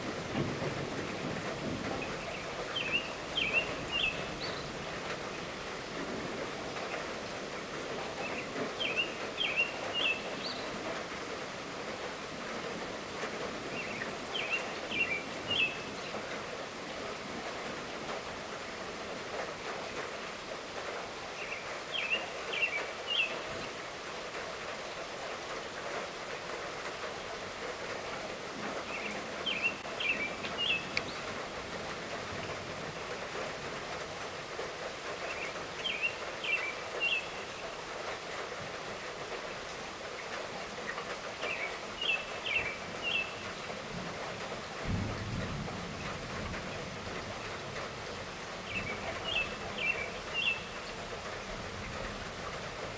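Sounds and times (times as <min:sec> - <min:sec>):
light rainfall: 0:00.0 - 0:52.9.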